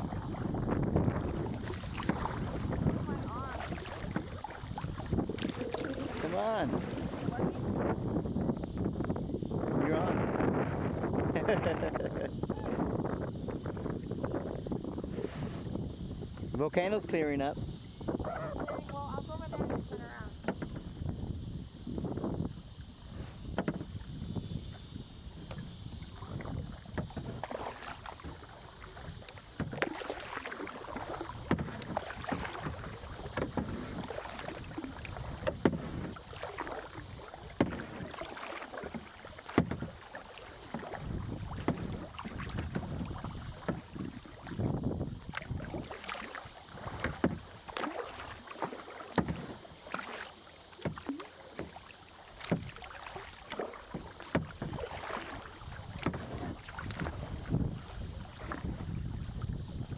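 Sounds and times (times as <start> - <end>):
wind on microphone: 0.0 - 50.1, 50.8 - 59.9
paddle splashing in water: 0.0 - 59.9.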